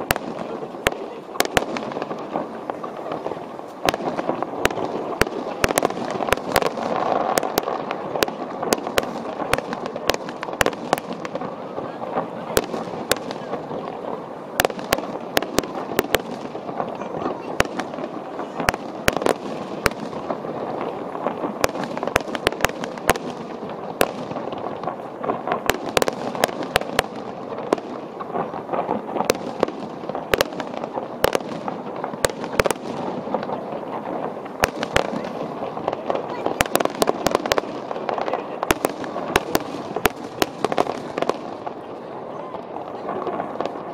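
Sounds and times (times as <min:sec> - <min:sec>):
fireworks bursting with sharp bangs: 0:00.0 - 0:43.9.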